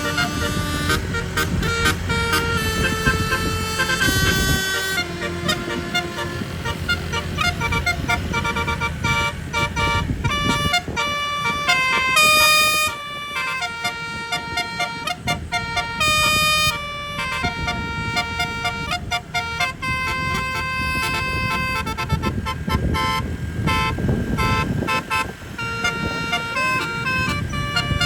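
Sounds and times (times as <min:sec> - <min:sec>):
low engine rumble: 0:00.0 - 0:28.0
multi-trumpet bus horn melody: 0:00.0 - 0:28.0.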